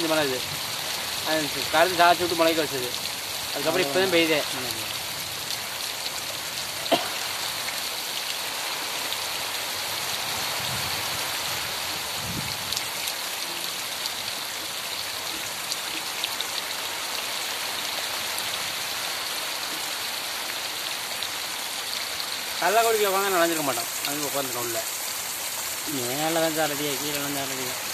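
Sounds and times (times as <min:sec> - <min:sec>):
heavy rain on wet ground: 0:00.0 - 0:27.9.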